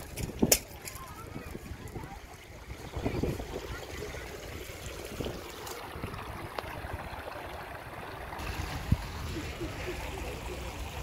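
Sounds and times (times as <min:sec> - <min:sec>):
stream trickling over stones: 0:00.0 - 0:11.0.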